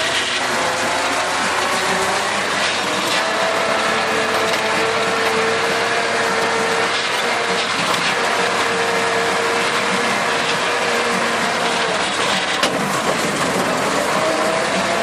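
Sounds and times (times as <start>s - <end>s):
rotary implement churning: 0.0s - 15.0s
tractor engine running under load: 0.0s - 15.0s.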